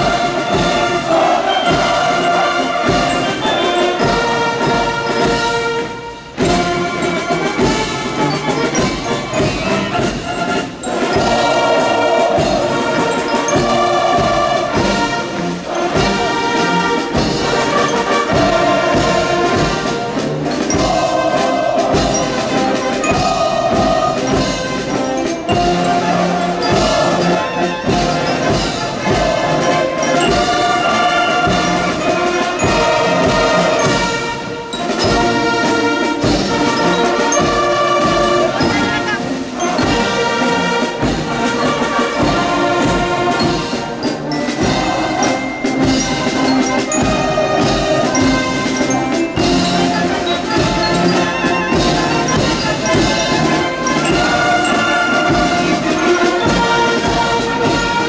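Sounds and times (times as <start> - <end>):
brass instruments playing march: 0.0 - 58.0
steady drum beat: 0.0 - 58.0.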